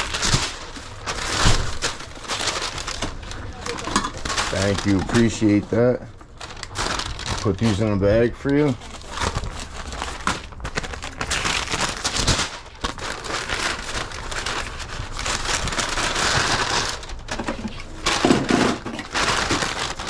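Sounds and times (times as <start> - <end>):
paper bags rustling and crinkling: 0.0 - 20.0.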